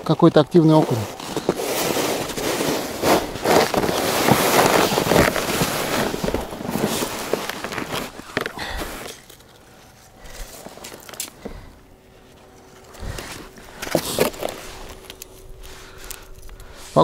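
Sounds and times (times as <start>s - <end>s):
crunching on snow: 0.6s - 17.0s
gear rustling and scraping: 0.6s - 17.0s.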